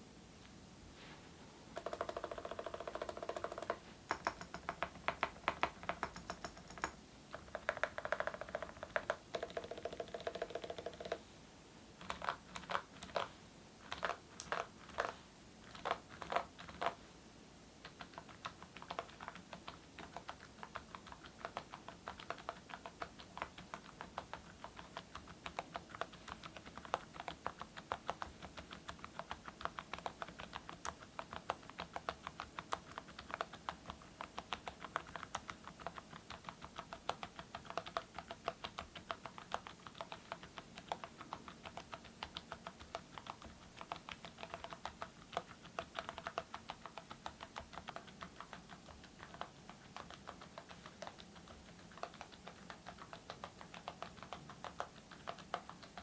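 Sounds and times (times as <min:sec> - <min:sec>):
mechanical keyboard typing: 0:01.8 - 0:11.2, 0:12.0 - 0:17.0, 0:17.8 - 0:56.0.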